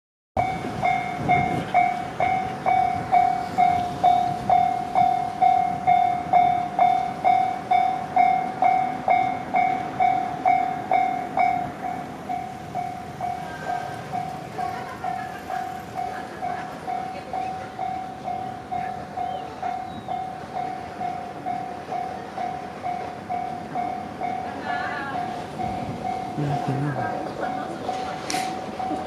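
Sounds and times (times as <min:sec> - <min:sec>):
level crossing warning bell: 0:00.4 - 0:29.0.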